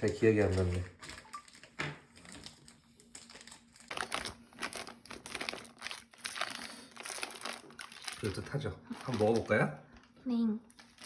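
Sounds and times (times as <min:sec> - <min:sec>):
foil bag crinkling: 0:00.0 - 0:10.0, 0:10.7 - 0:11.0.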